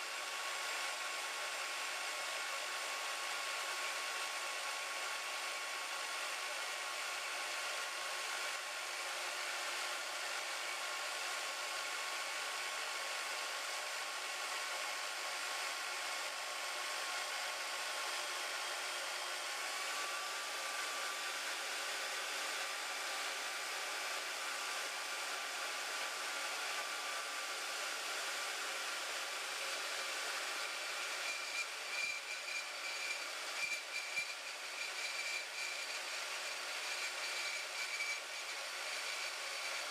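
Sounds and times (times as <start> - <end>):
band saw cutting metal: 7.1 - 39.9.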